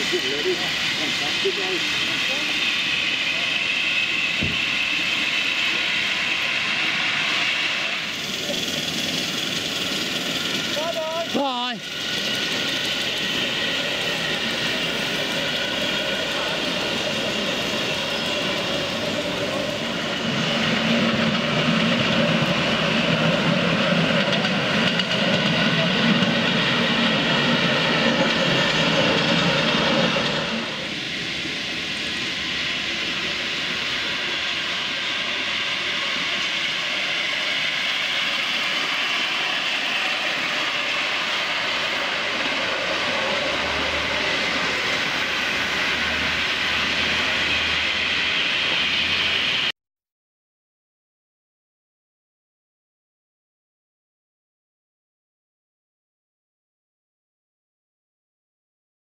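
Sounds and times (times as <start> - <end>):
miniature train running on track: 0.0 - 49.7.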